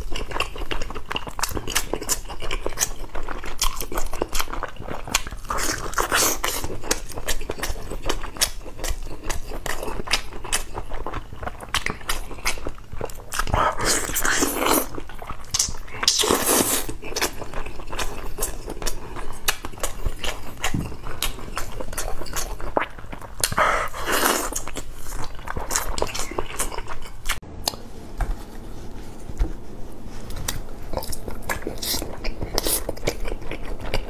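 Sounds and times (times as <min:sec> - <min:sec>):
man chewing and lip-smacking: 0:00.0 - 0:27.8, 0:30.4 - 0:34.0.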